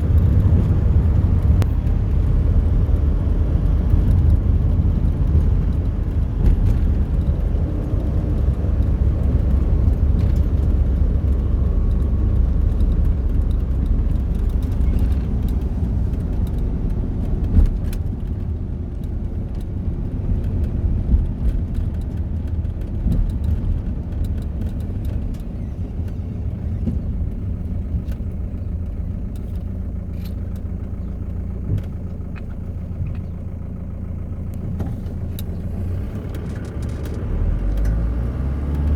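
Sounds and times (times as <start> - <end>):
car rumbling on the move: 0.0 - 38.9.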